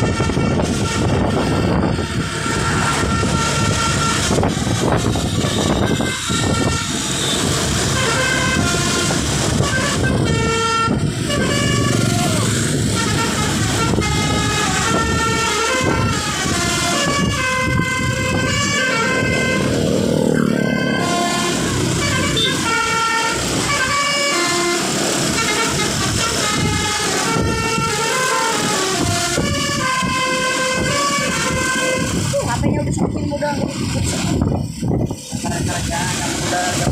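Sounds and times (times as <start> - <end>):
musical bus horn tune: 0.0 - 32.4.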